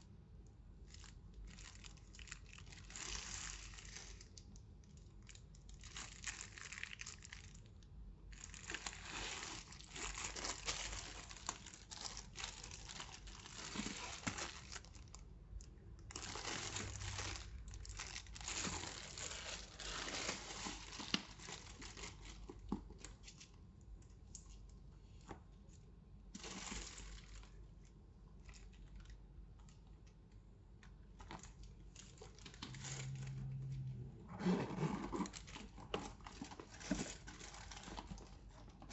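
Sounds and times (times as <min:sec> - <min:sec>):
wrapping rustling and crackling: 0:00.8 - 0:29.9, 0:31.0 - 0:38.9.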